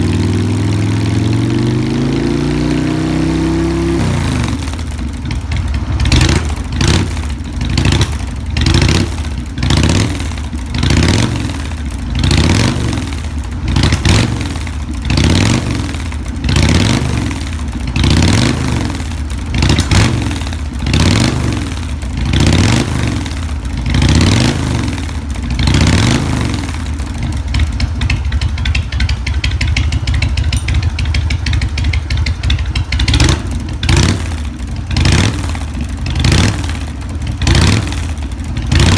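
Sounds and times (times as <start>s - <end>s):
motorcycle engine idling: 0.0s - 2.0s, 2.8s - 38.9s
motorcycle engine revving: 0.0s - 38.9s.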